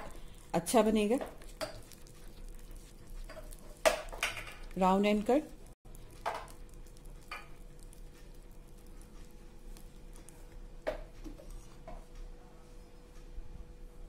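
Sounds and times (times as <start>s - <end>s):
spatula stirring batter in glass bowl: 0.0s - 12.2s
faint steady hum: 0.0s - 14.0s.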